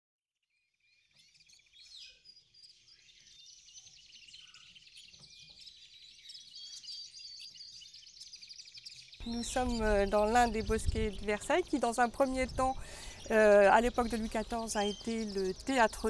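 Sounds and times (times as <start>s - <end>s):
small birds chirping and singing: 0.5s - 16.0s.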